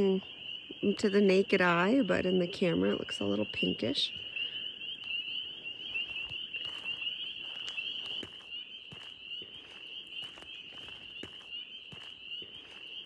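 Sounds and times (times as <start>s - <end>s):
frogs peeping: 0.0s - 13.0s.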